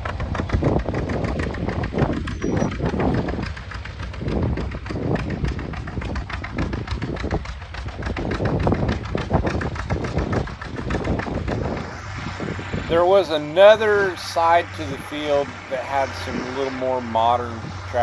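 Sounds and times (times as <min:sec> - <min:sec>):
tractor engine chugging: 0:00.0 - 0:18.0.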